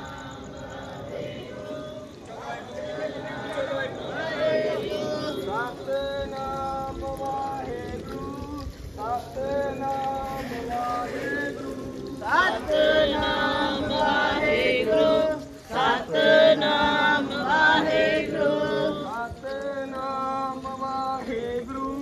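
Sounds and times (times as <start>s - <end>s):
group chanting a hymn: 0.0s - 22.0s.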